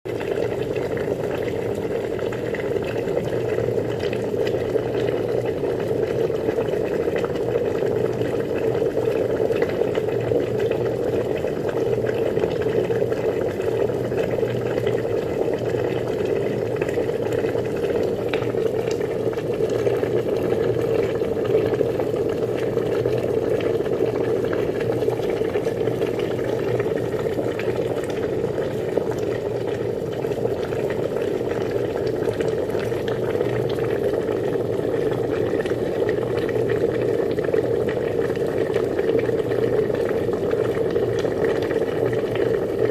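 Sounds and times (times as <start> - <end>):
water boiling in a pot: 0.1 - 42.9.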